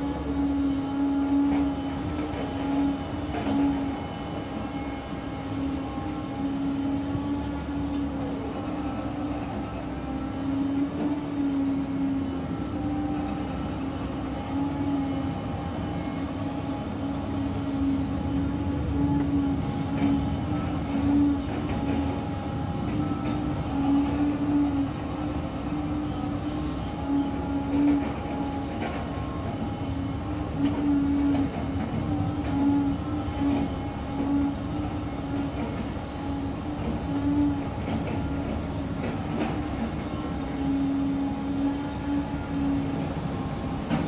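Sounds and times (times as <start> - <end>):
excavator engine and hydraulics: 0.0 - 44.0.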